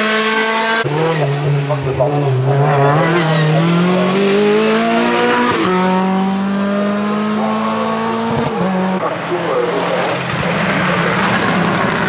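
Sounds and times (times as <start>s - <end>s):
race car engine accelerating: 0.0s - 12.0s.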